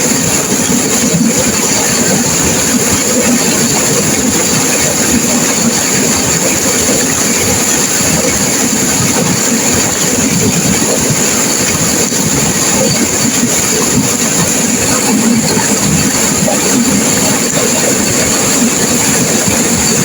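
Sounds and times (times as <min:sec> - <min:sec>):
river water rushing through rapids: 0:00.0 - 0:20.0.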